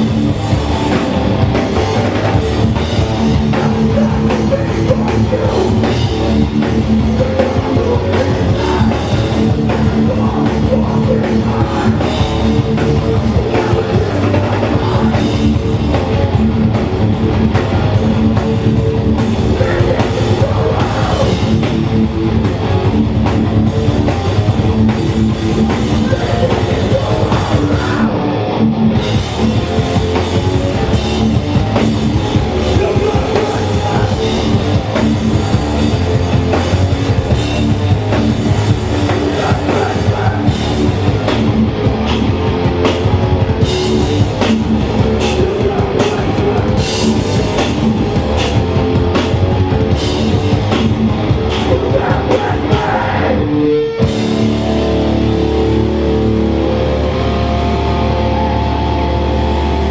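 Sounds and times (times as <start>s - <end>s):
punk band playing live: 0.0s - 59.9s.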